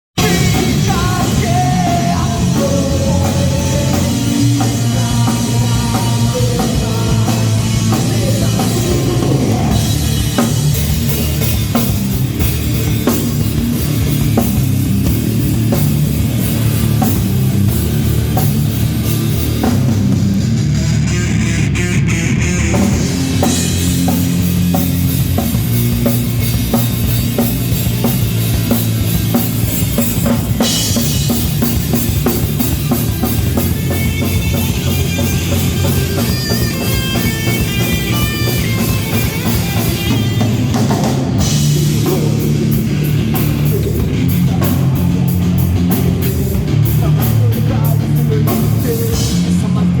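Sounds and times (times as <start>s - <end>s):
rock band playing: 0.1s - 50.0s
drum kit steady beat: 0.2s - 21.4s, 22.0s - 50.0s.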